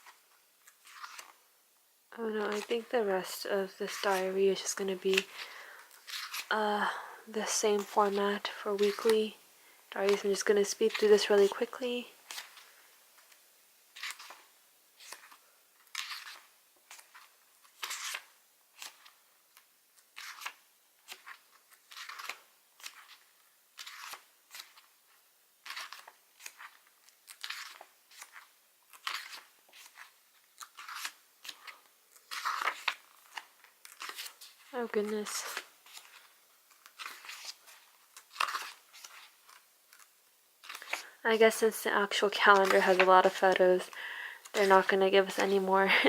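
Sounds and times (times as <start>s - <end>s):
paper pages flipping: 0.0s - 1.4s, 2.3s - 6.5s, 7.5s - 9.3s, 10.0s - 11.6s, 12.2s - 13.4s, 14.0s - 46.0s.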